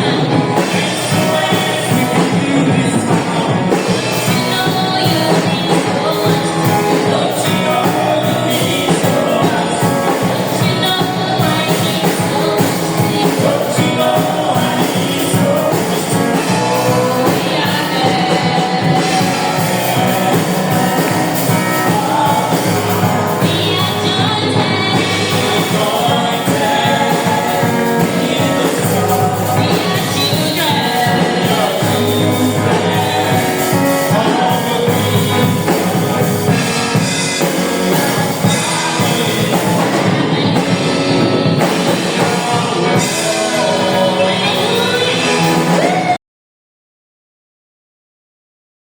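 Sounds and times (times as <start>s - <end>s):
band playing church music: 0.0s - 46.2s
singing: 0.0s - 46.2s
sustained bass line: 0.0s - 46.2s.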